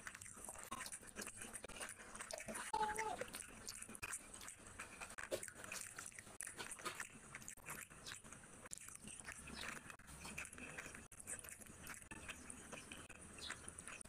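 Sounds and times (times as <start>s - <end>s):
fingers squishing through rice: 0.0s - 14.0s
wet chewing sounds: 0.0s - 14.0s.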